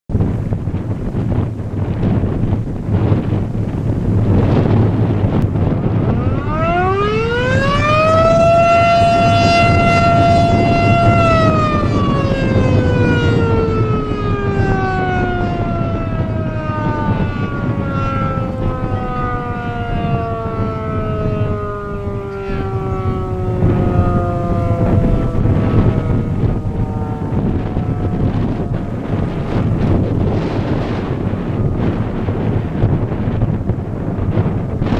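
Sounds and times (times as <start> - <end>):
wind noise on microphone: 0.1 - 34.9
warning siren wailing: 0.2 - 34.9.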